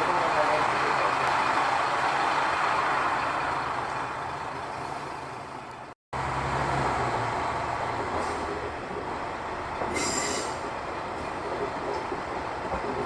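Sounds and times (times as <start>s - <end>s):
diesel railcar running: 0.0s - 13.0s
low diesel engine hum: 0.0s - 13.0s.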